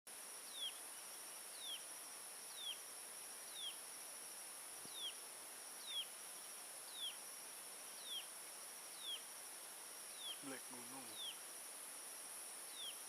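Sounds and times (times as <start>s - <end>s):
insects hissing and trilling: 0.1s - 13.0s.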